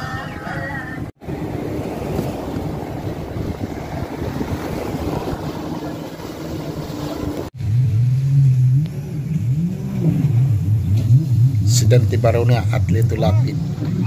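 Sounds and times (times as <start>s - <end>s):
speedboat engine passing: 0.0s - 14.0s
wind and water noise: 0.0s - 14.0s
motorboat engine revving: 1.2s - 14.0s.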